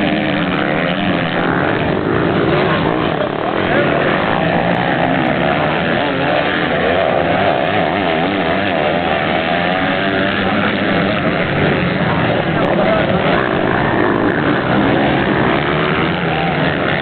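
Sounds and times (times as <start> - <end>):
motocross engines racing: 0.0 - 17.0.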